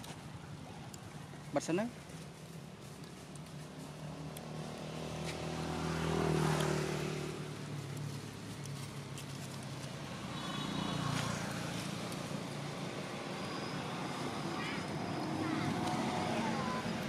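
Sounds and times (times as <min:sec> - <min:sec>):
passing vehicle engine hum: 0:02.0 - 0:17.0.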